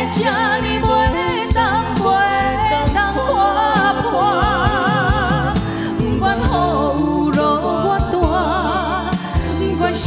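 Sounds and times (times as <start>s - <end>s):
band accompaniment: 0.0s - 10.0s
woman singing a slow ballad: 0.0s - 10.0s.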